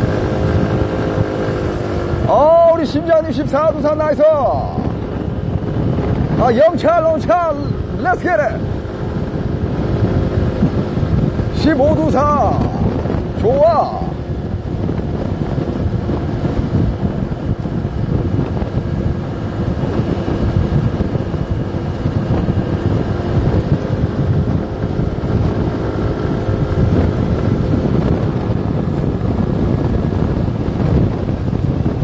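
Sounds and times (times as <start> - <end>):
motorbike engine humming: 0.0 - 32.0
wind buffeting microphone: 0.0 - 32.0.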